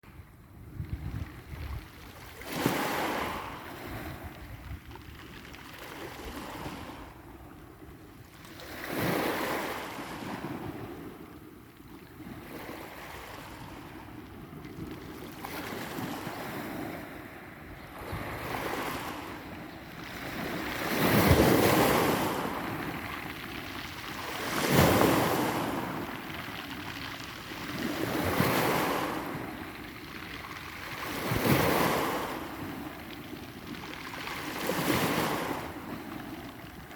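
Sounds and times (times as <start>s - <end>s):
sea waves breaking on shore: 0.0s - 36.9s.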